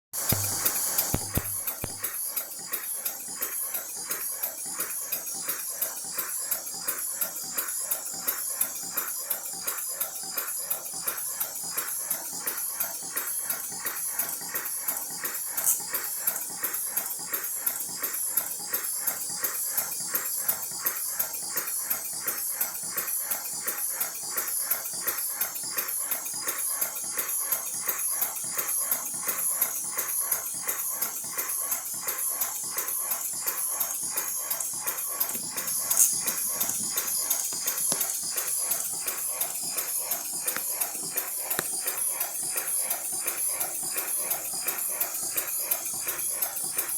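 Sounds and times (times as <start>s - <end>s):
model steam locomotive chuffing: 0.2s - 46.9s
steam hissing: 0.2s - 46.9s.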